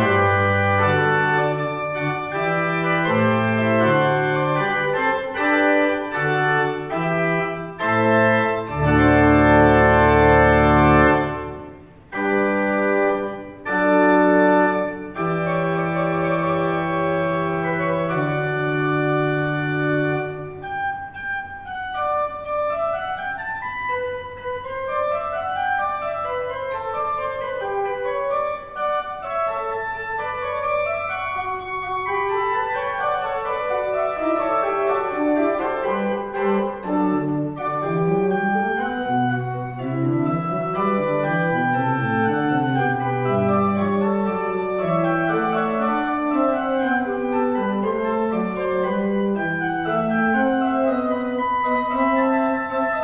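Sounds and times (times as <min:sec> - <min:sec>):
pipe organ playing: 0:00.0 - 0:53.0.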